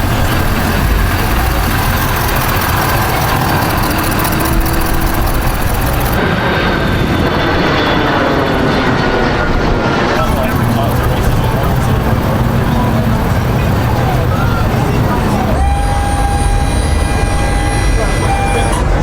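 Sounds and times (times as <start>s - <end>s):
vehicle engine noise: 0.0s - 19.0s.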